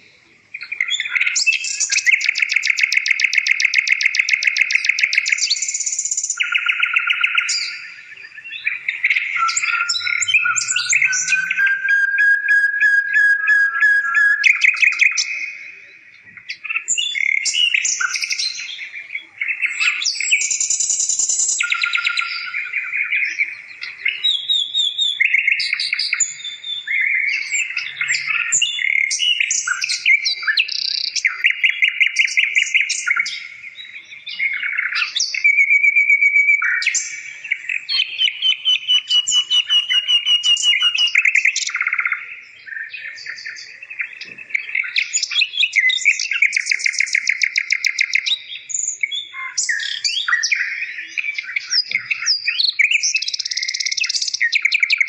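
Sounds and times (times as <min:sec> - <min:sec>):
songbird trilling and chirping: 0:00.5 - 0:55.0.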